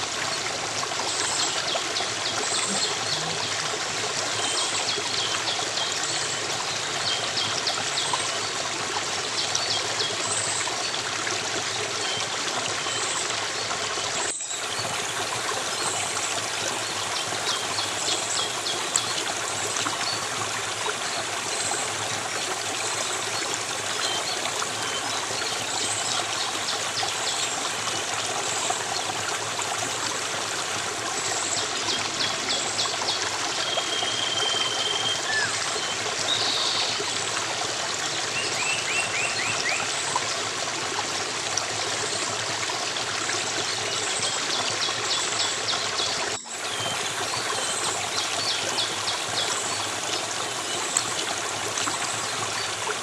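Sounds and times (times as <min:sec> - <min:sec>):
small stream running: 0:00.0 - 0:53.0.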